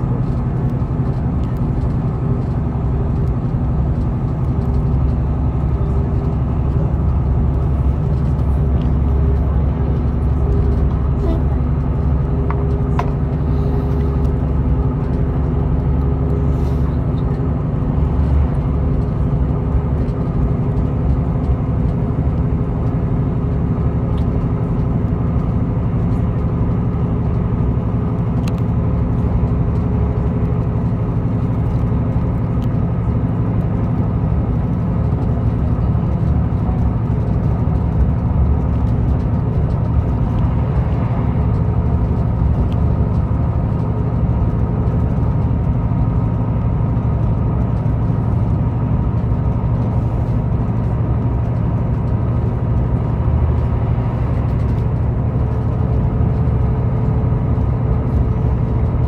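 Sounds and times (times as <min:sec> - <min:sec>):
diesel engine drone: 0:00.0 - 0:59.0
wheels rumbling on rail: 0:00.0 - 0:59.0.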